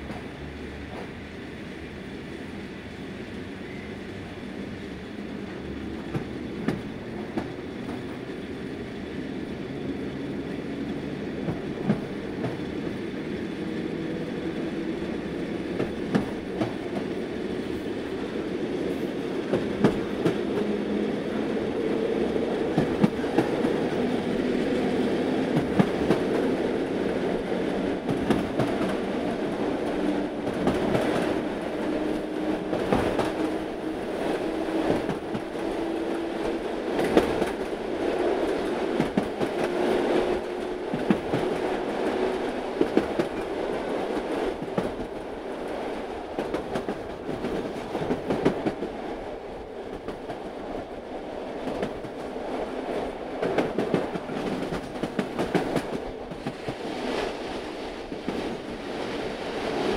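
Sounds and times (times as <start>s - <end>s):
train rolling on rails: 0.0s - 59.9s.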